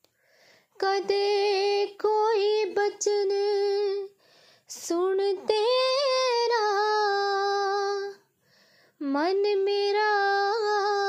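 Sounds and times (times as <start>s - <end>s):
person singing devotional song: 0.6s - 8.3s, 8.9s - 11.0s.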